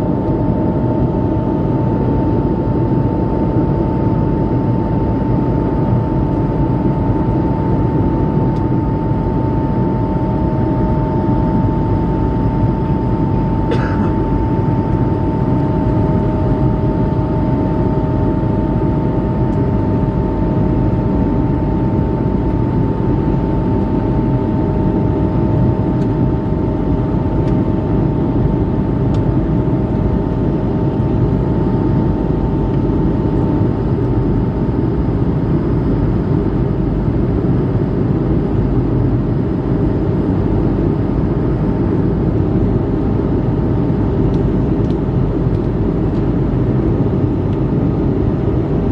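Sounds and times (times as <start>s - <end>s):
steady hum tones: 0.0s - 48.9s.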